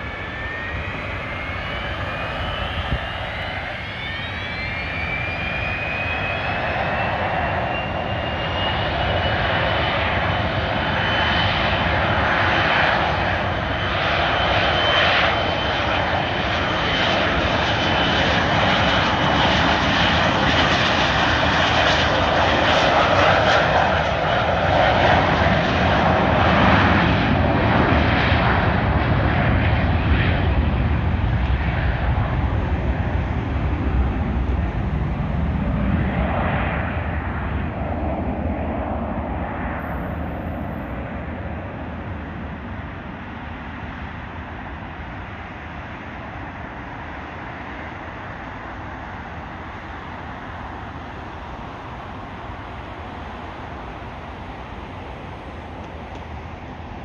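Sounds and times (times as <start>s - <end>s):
jet engine whine: 0.0s - 57.0s
jet roar: 0.0s - 57.0s.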